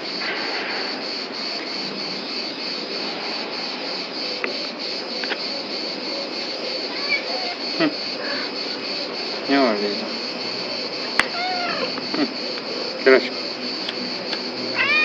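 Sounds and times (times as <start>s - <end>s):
insects pulsing chorus: 0.0s - 15.0s
steady background hiss: 0.0s - 15.0s.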